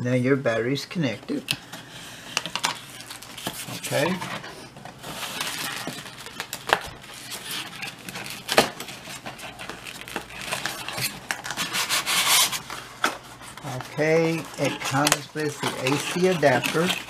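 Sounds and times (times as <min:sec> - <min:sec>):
hands scraping cardboard and plastic: 0:01.3 - 0:17.0.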